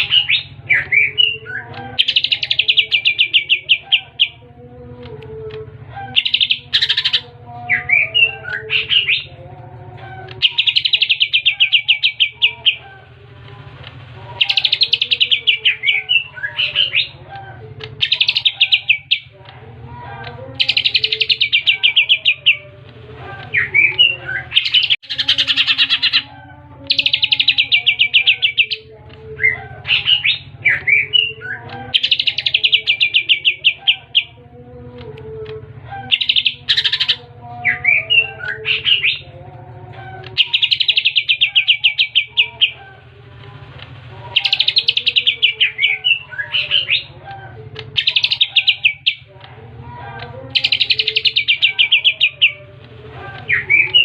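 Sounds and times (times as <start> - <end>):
bird singing fast trills: 0.0 - 4.5, 5.5 - 9.4, 10.1 - 13.0, 14.3 - 19.4, 20.3 - 22.8, 23.5 - 34.4, 35.3 - 39.4, 40.1 - 42.8, 44.2 - 49.4, 50.4 - 52.7, 53.5 - 54.0.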